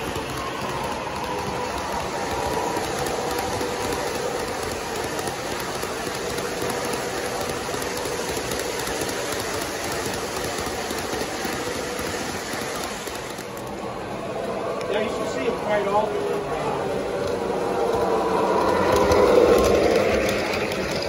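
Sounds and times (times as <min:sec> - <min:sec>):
model train wheels clattering on rails: 0:00.0 - 0:13.9, 0:14.7 - 0:21.0.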